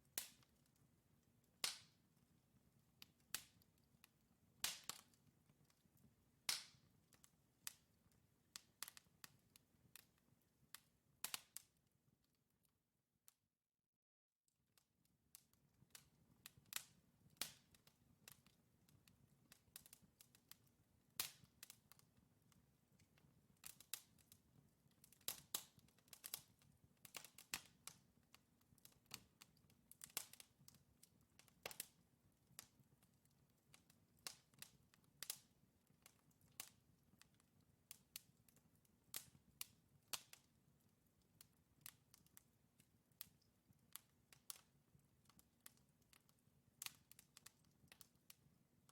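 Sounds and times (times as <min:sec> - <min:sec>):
logs crackling and popping in fire: 0:00.1 - 0:11.8, 0:15.3 - 0:48.6.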